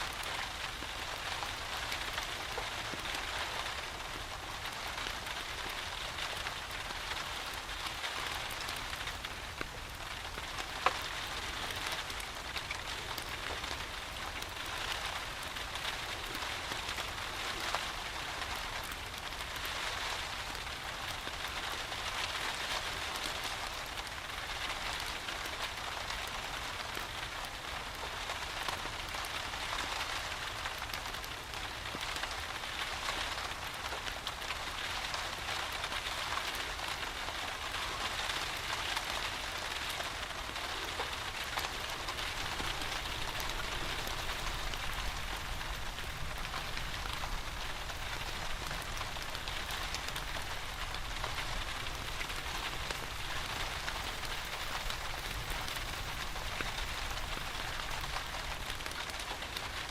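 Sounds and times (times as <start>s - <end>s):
steady rain falling: 0.0s - 59.9s
wood fire crackling: 0.0s - 59.9s.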